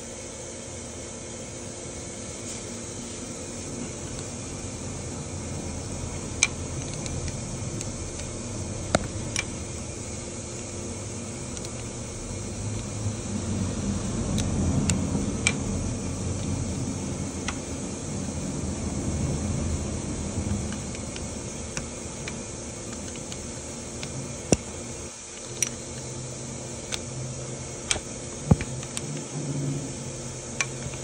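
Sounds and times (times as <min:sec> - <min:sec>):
steady background noise: 0:00.0 - 0:31.0.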